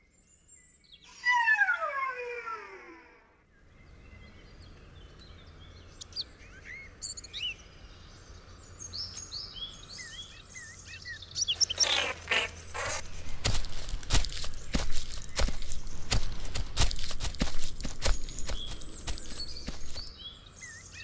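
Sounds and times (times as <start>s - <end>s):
birds chirping: 0.7s - 21.0s.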